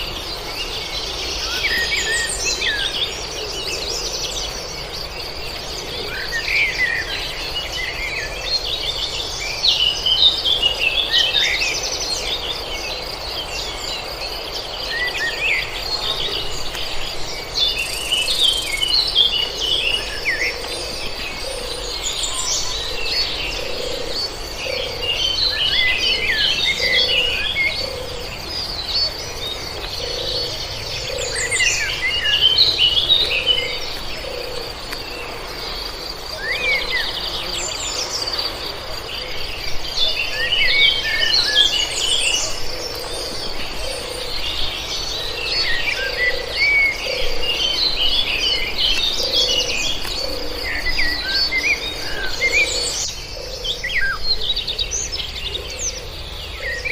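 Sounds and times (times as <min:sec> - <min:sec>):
songbirds chirping: 0:00.0 - 0:56.9.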